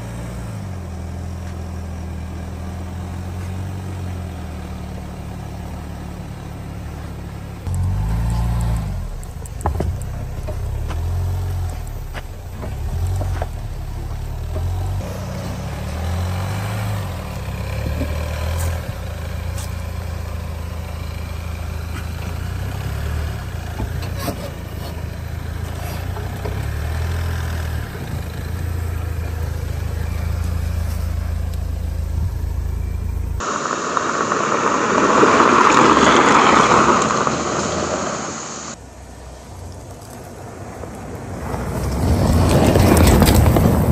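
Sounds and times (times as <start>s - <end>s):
engine running at low revs: 0.0s - 39.5s
tyres rushing on dirt: 0.0s - 43.9s
wind: 0.0s - 43.9s.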